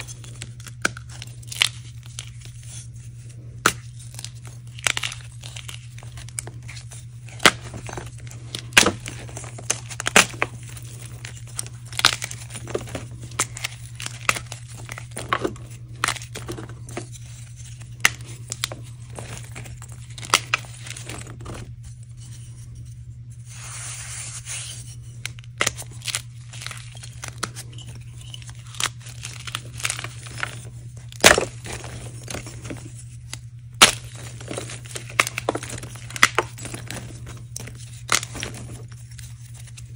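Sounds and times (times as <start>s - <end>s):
gritty crumbling: 0.0s - 22.8s, 25.2s - 39.9s
chalk blocks cracking: 3.6s - 21.7s, 25.2s - 39.9s.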